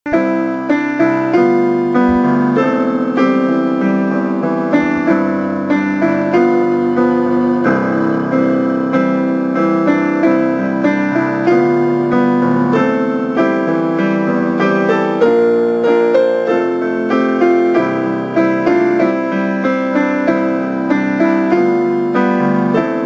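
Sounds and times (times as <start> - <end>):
piano chords: 0.1 - 23.0.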